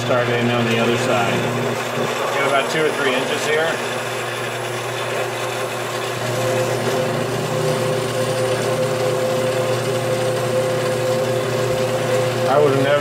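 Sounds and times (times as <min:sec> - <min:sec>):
bandsaw cutting metal: 0:00.0 - 0:13.0.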